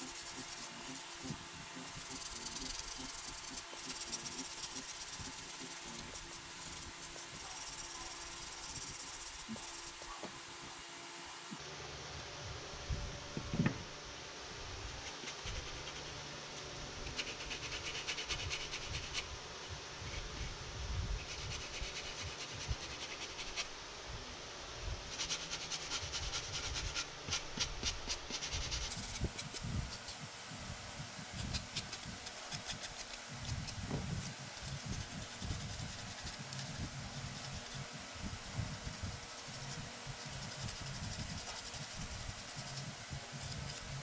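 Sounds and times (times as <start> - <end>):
sanding sponge scratching plastic: 0.0 - 11.6, 15.0 - 16.2, 17.0 - 19.3, 21.2 - 23.7, 25.1 - 30.3, 31.2 - 44.0.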